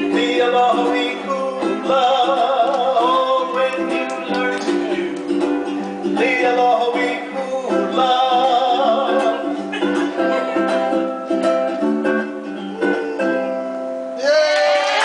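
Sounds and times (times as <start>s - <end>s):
ukulele strummed chords: 0.0s - 14.2s.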